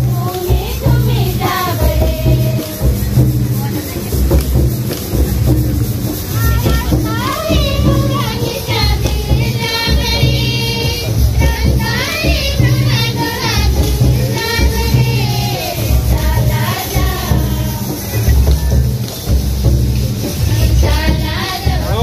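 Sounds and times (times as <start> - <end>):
voices singing: 0.0 - 5.4, 6.1 - 19.3, 20.2 - 22.0.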